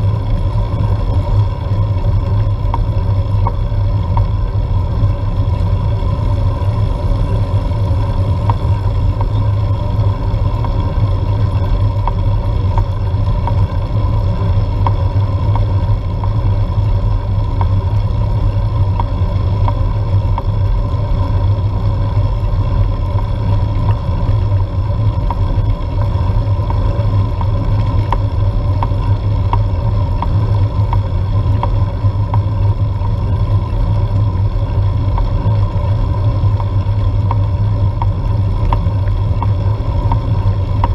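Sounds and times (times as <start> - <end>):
faint ticks: 0.0 - 40.9
road rumble: 0.0 - 40.9
steady hum: 0.0 - 40.9.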